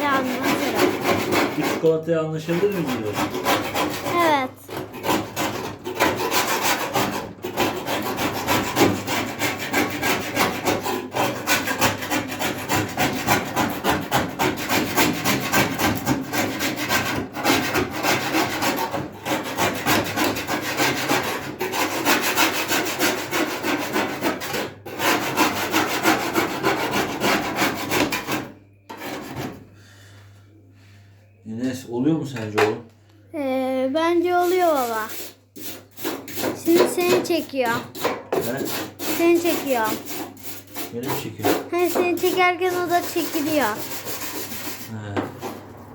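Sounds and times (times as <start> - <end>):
hand tool scraping: 0.0 - 29.6, 34.3 - 45.6.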